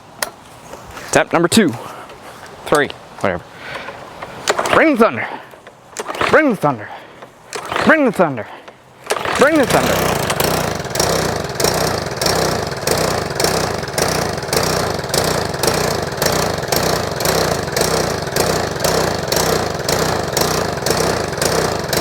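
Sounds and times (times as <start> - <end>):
lawn mower engine idling roughly: 3.8 - 22.0.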